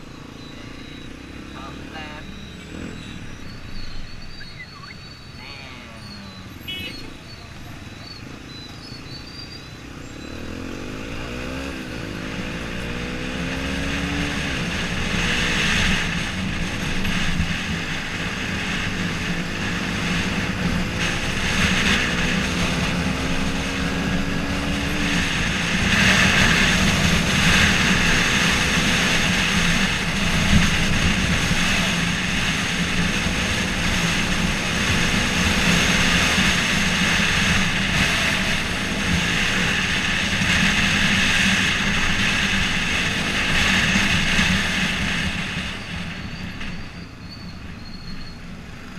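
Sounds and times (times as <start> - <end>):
motorcycle engine accelerating: 0.0 - 47.8
wind and road noise: 0.0 - 48.9.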